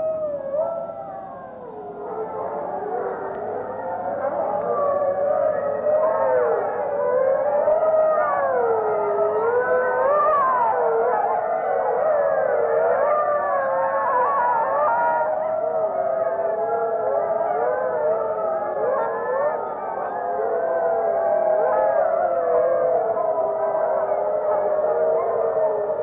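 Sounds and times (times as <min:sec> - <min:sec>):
wolf pack howling: 0:00.0 - 0:26.0.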